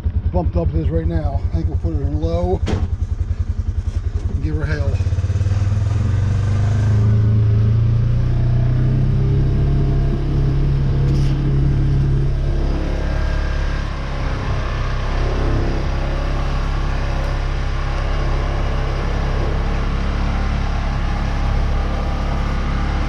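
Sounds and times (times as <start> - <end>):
vehicle engine under load: 0.0 - 23.0.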